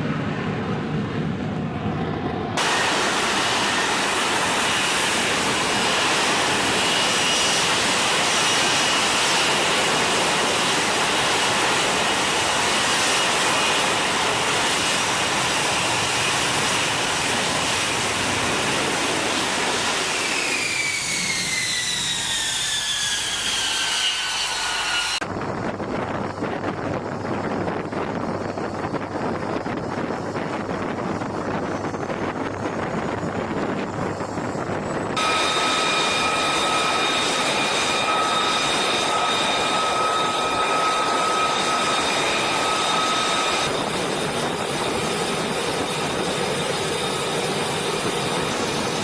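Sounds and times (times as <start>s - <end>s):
jet engine roaring with whine: 0.0s - 49.0s
wind noise: 0.0s - 49.0s.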